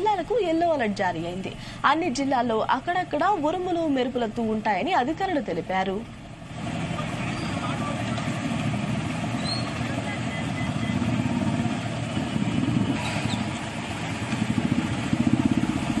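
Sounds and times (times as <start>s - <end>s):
street traffic: 0.0s - 16.0s
motorcycle engines running: 2.2s - 16.0s.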